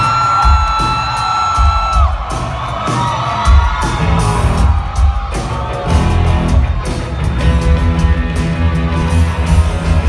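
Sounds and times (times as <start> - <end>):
crowd cheering and whooping: 0.0 - 10.0
live band music: 0.0 - 10.0.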